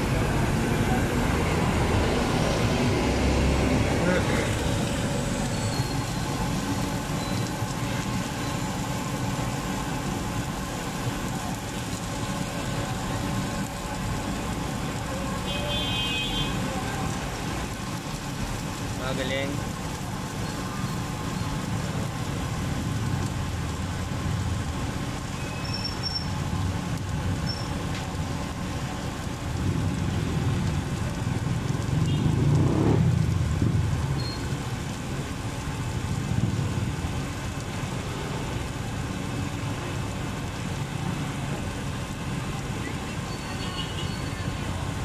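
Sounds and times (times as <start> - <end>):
low rumble of road traffic: 0.0 - 45.0.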